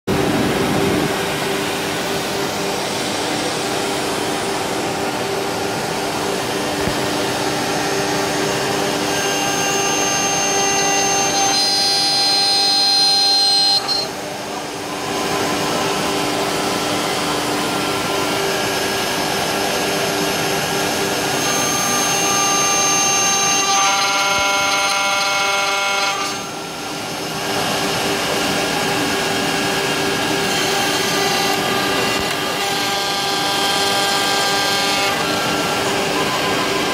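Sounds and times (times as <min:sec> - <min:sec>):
high machine whine: 0:00.1 - 0:36.9
lathe motor hum: 0:00.1 - 0:36.9.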